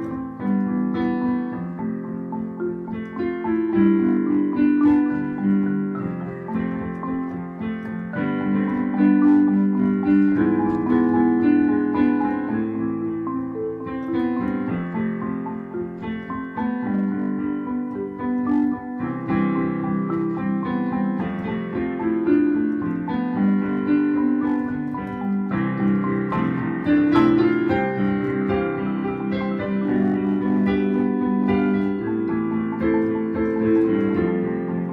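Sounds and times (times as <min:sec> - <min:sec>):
solo piano melody: 0:00.0 - 0:34.9.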